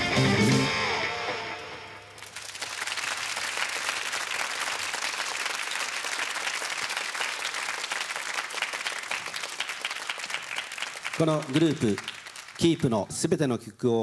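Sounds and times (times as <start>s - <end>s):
audience applauding: 0.9s - 13.0s.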